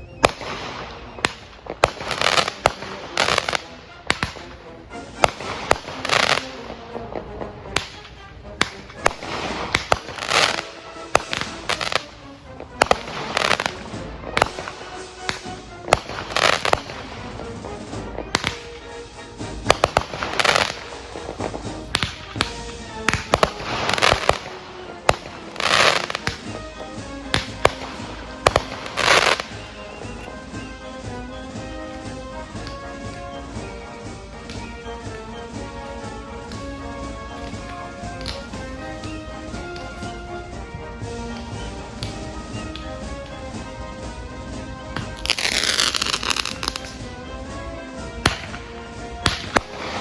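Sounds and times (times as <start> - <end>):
fireworks bangs: 0.0 - 50.0
noisy firework bursts: 0.0 - 50.0.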